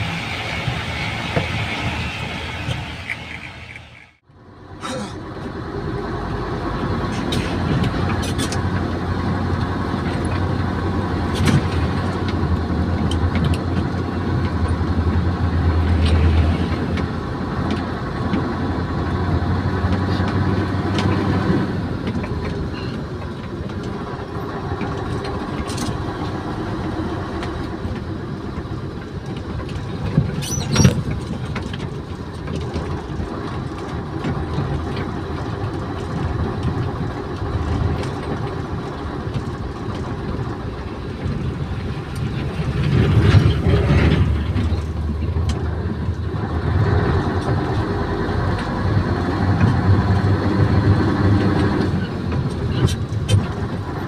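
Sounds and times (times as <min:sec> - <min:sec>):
deep rumble: 0:00.0 - 0:54.0
truck engine and road noise: 0:00.0 - 0:54.0.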